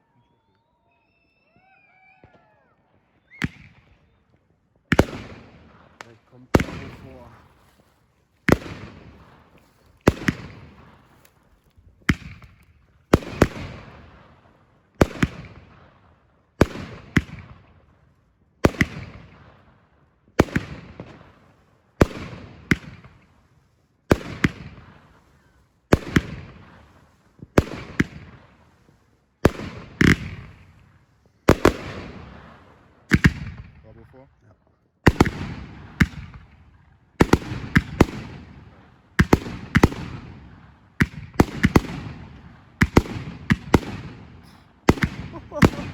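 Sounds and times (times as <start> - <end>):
fireworks banging and crackling: 2.2 - 19.7, 20.3 - 34.1, 35.0 - 45.9.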